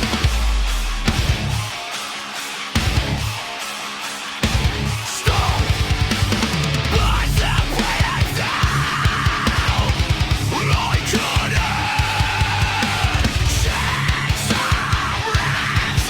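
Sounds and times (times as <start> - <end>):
distorted electric guitar: 0.0 - 16.0
heavy metal music: 0.0 - 16.0
rapid driving drums: 0.0 - 16.0.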